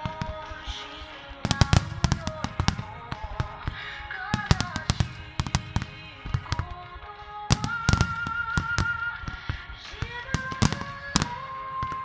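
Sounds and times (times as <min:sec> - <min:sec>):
fireworks bangs and crackles: 0:00.0 - 0:12.0
music with long held notes: 0:00.0 - 0:12.0.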